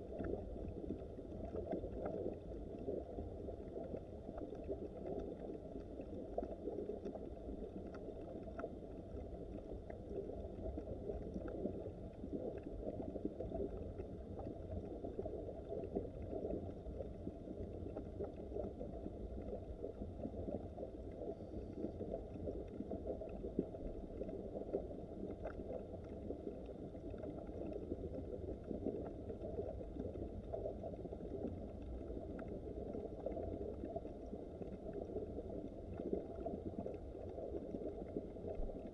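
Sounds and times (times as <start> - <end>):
faint ticks: 0.0 - 38.9.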